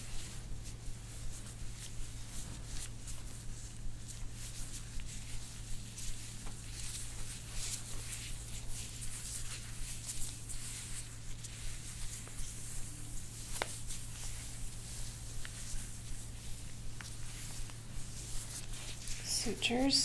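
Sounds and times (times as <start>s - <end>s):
hands rustling over skin and hair: 0.0s - 20.0s
low steady hum: 0.0s - 20.0s.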